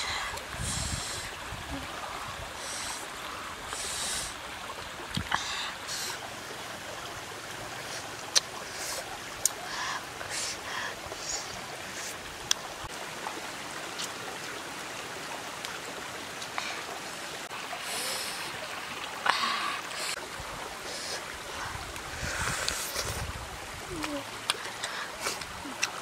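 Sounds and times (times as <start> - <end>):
stream running over rocks: 0.0 - 26.0.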